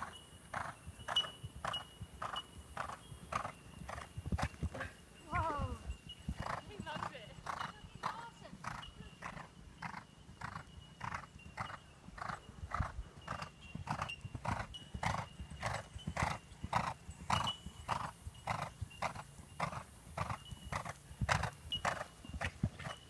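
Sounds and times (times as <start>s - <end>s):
muffled hoofbeats on sand: 0.0s - 23.0s.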